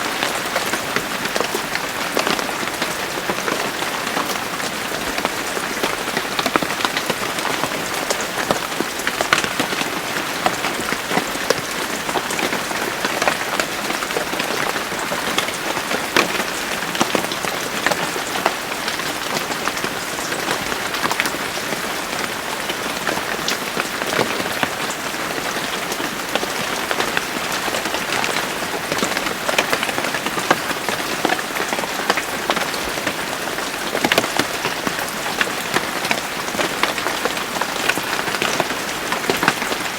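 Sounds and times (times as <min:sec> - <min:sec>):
raindrops ticking on surfaces: 0:00.0 - 0:39.9.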